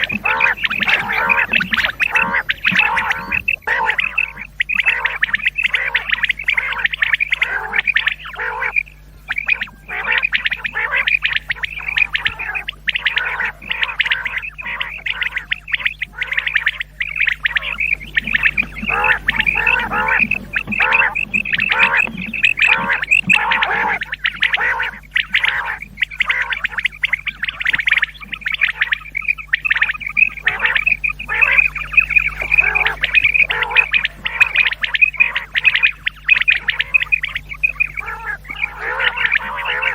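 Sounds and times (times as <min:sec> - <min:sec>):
low electrical hum: 0:00.0 - 0:39.9
quails calling: 0:00.0 - 0:39.9.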